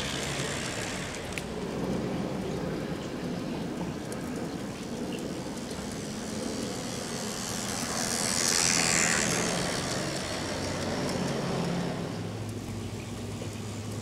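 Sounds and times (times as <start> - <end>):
model train motor hum: 0.0 - 2.4, 4.9 - 14.0
wheels on rails: 0.0 - 14.0.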